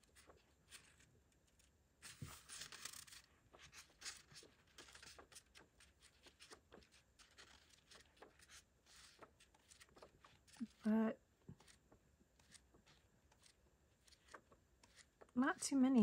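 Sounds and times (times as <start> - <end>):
paper rustling: 0.0 - 15.3.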